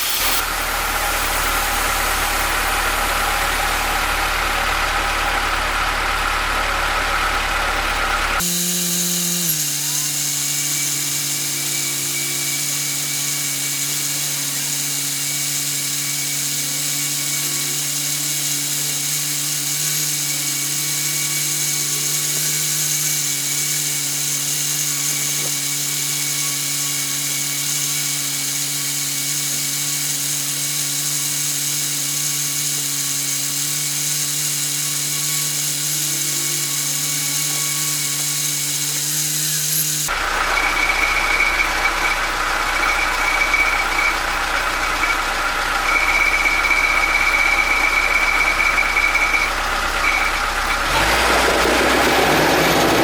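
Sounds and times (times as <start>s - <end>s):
air compressor motor hum: 0.0s - 53.0s.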